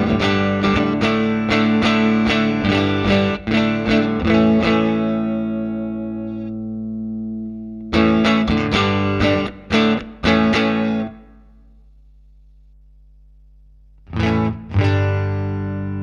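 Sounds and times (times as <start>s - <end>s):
distorted electric guitar chords: 0.0s - 11.8s, 14.0s - 16.0s
faint amplifier hum: 0.0s - 16.0s.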